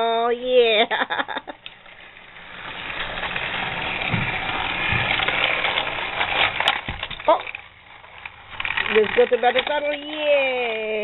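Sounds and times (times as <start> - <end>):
toy train motor whir and rattle: 0.0 - 11.0.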